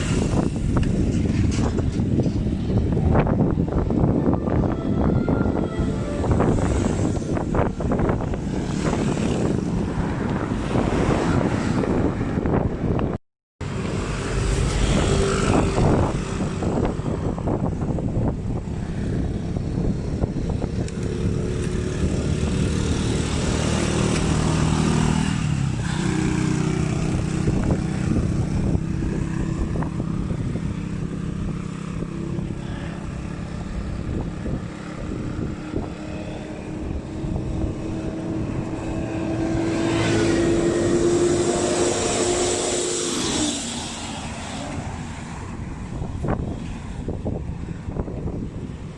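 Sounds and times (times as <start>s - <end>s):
road and wind noise: 0.0s - 48.9s.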